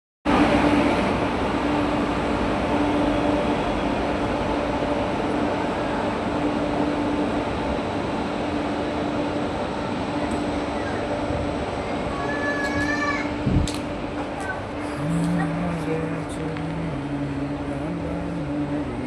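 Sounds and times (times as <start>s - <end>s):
train rumbling: 0.3s - 19.0s.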